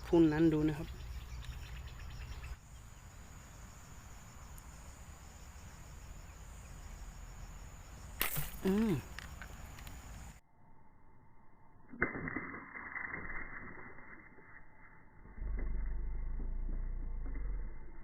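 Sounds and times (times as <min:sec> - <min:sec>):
crickets chirring: 0:00.0 - 0:15.4.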